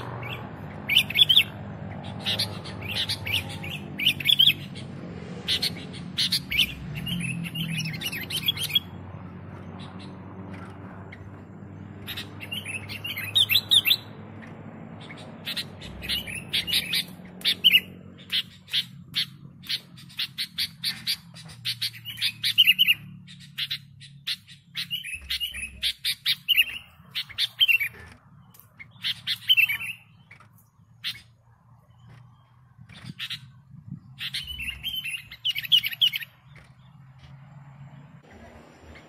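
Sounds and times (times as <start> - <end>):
bulbul singing: 0.0 - 39.0.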